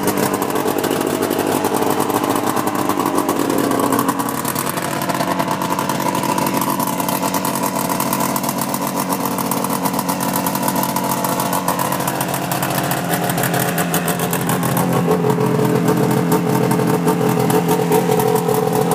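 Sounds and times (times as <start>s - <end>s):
snowmobile engine idling: 0.0s - 18.9s.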